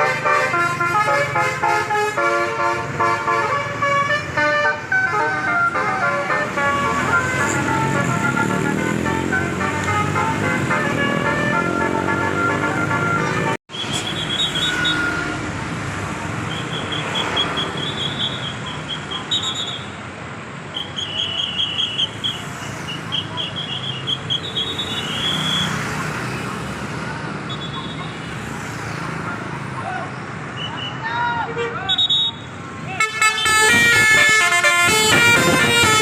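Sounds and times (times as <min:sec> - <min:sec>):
roadside traffic noise: 0:00.0 - 0:36.0.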